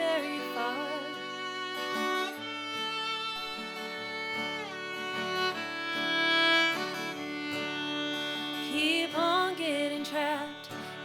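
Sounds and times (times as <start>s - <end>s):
fiddle playing long notes: 0.0s - 11.0s.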